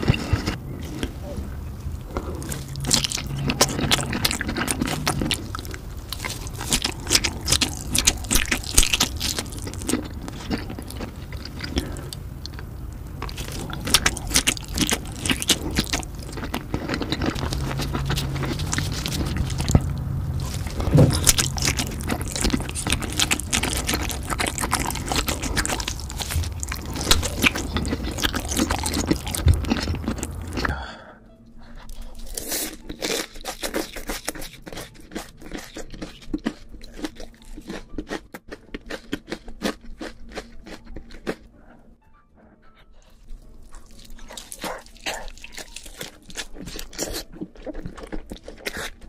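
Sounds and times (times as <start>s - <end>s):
person biting and chewing: 0.0s - 1.4s, 2.0s - 30.7s, 31.8s - 41.5s, 43.3s - 49.0s.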